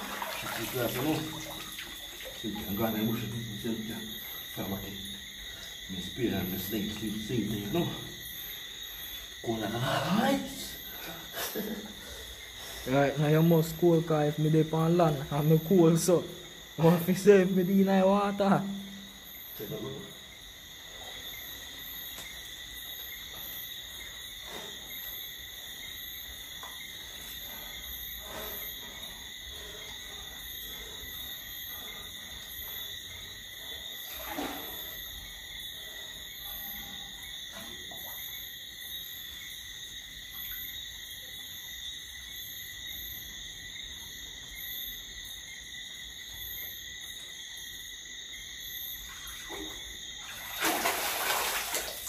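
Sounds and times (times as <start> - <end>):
insects calling at night: 0.0 - 52.0.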